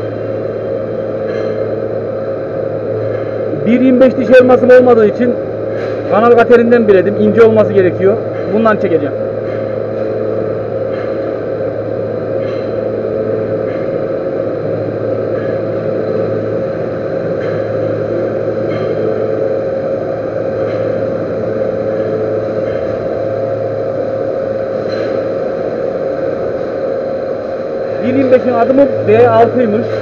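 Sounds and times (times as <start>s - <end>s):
lathe hum and whine: 0.0s - 30.0s.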